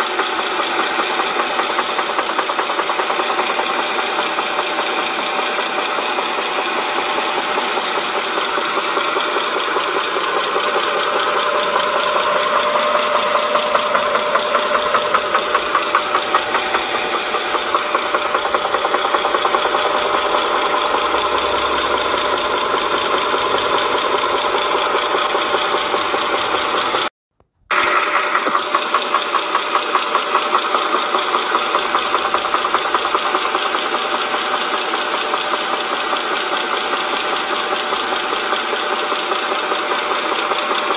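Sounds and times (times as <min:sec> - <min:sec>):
car engine running: 0:00.0 - 0:27.1, 0:27.7 - 0:40.9
timing chain knocking rattle: 0:00.0 - 0:27.1, 0:27.8 - 0:40.9.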